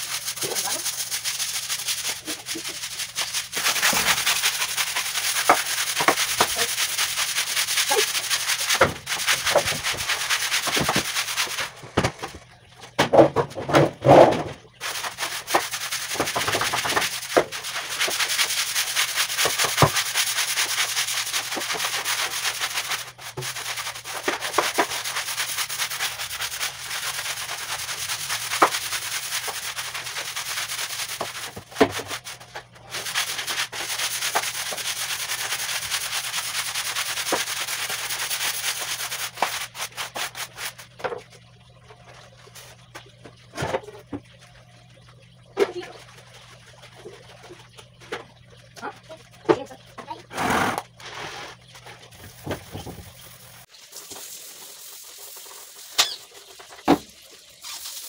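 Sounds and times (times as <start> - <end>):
broom scrubbing wet floor: 0.0 - 12.4, 13.3 - 41.2, 48.8 - 58.0.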